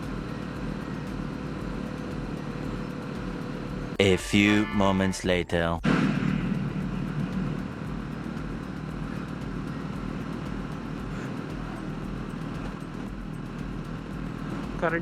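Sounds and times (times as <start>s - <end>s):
motorcycle engine running: 0.0s - 4.0s, 5.9s - 15.0s.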